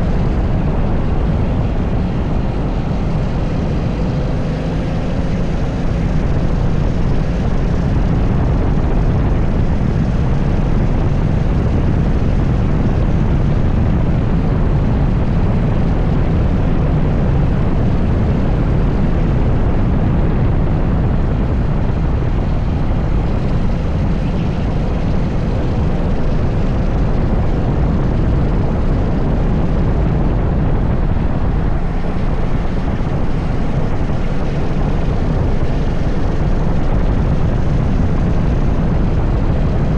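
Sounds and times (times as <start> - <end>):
go-kart engine drone: 0.0 - 39.9.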